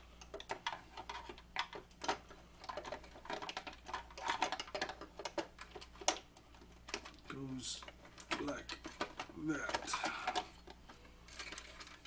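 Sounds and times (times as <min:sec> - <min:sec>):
hard plastic parts clicking: 0:00.2 - 0:12.0.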